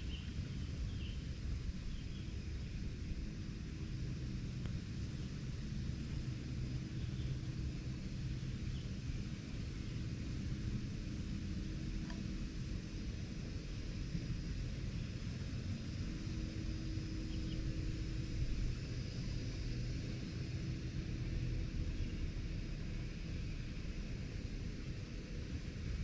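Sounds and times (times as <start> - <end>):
faint hum: 0.0 - 26.0
low outdoor rumble: 0.0 - 26.0.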